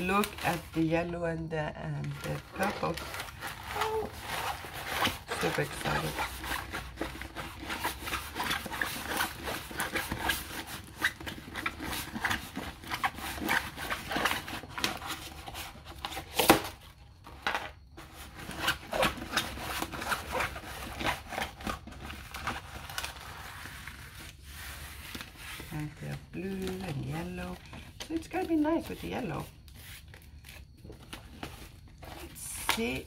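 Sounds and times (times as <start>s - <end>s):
plastic film crinkling: 0.0s - 33.0s.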